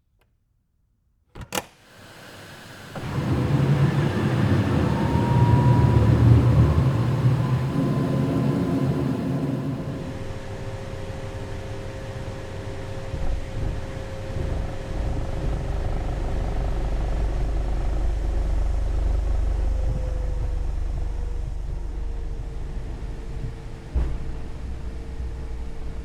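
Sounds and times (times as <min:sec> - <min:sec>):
jet engine whine: 0:02.0 - 0:26.0
low engine rumble: 0:03.0 - 0:26.0.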